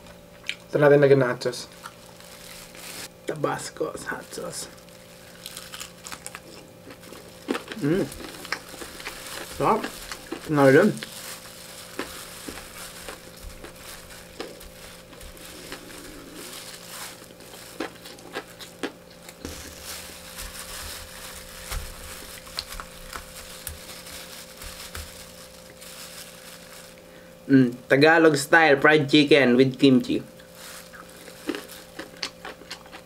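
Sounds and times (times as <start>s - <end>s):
plastic glove crinkling: 1.5s - 27.4s, 30.0s - 33.0s
chewing crispy food: 1.6s - 3.1s, 4.1s - 27.1s, 30.3s - 33.0s.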